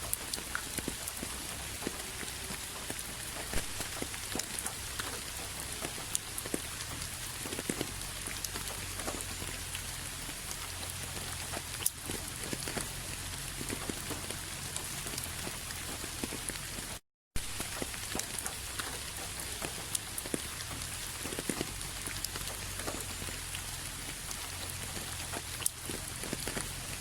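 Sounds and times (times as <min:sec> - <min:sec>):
rain falling: 0:00.0 - 0:27.0
raindrops ticking on a surface: 0:00.0 - 0:27.0.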